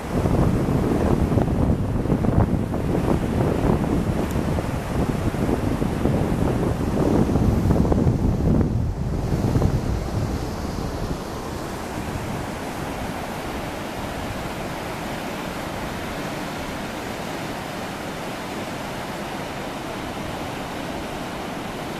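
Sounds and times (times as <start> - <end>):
stream rushing over boulders: 0.0 - 21.9
wind buffeting microphone: 0.0 - 21.9.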